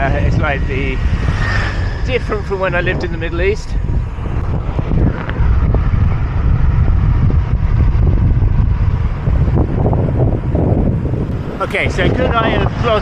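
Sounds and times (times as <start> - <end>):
road traffic: 0.0 - 13.0
wind buffeting microphone: 0.0 - 13.0.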